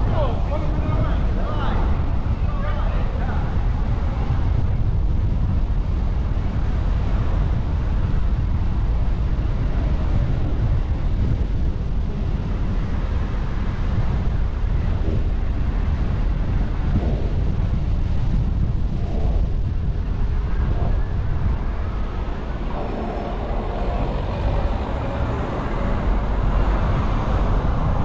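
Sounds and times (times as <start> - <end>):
car road noise: 0.0 - 28.0
wind noise: 0.0 - 28.0.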